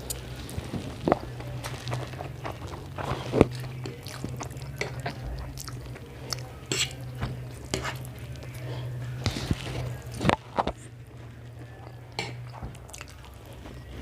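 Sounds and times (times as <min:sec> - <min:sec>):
people chewing noodles: 0:00.0 - 0:14.0
steady low hum: 0:00.0 - 0:14.0.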